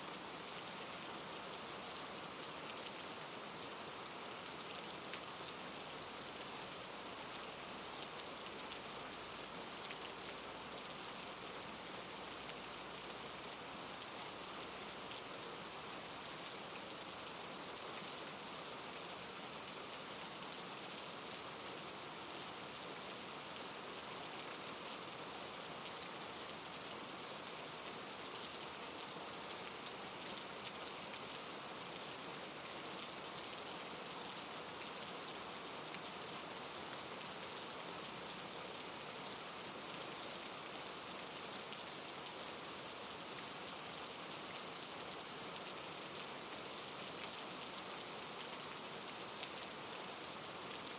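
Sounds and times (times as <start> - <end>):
soft rain hissing: 0.0 - 50.9.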